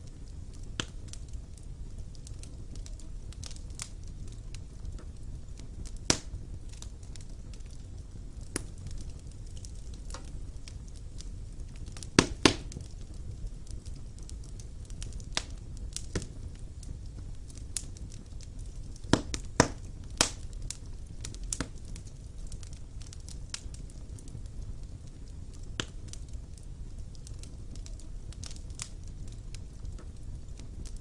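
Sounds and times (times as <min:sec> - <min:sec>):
burning logs crackling and popping: 0:00.0 - 0:31.0
low rumble of flames: 0:00.0 - 0:31.0.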